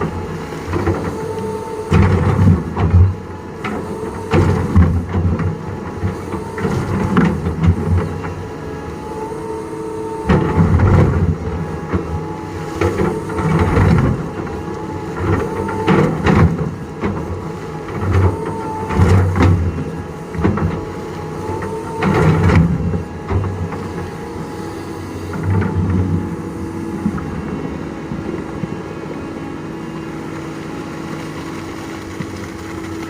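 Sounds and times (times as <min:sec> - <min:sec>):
excavator diesel engine surging: 0:00.0 - 0:33.0
faint hydraulic whine: 0:00.0 - 0:33.0.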